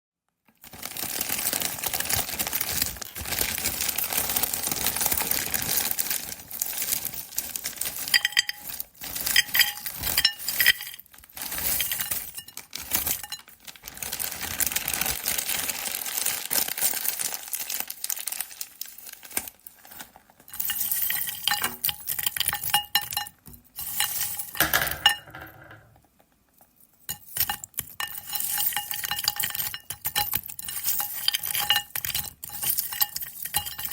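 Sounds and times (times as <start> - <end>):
fries rattling into a bowl: 0.6 - 25.9, 27.0 - 33.9.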